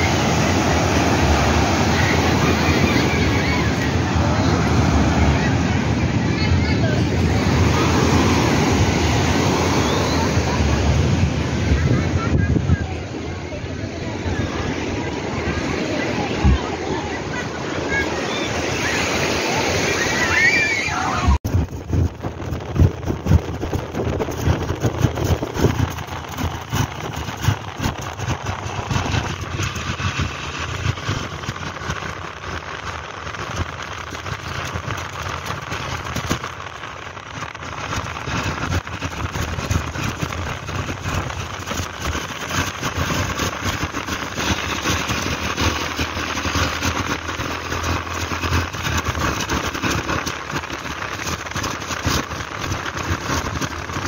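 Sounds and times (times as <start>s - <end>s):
motorbike engine: 0.0s - 54.0s
road noise: 0.0s - 54.0s
wind rushing over microphone: 0.0s - 54.0s.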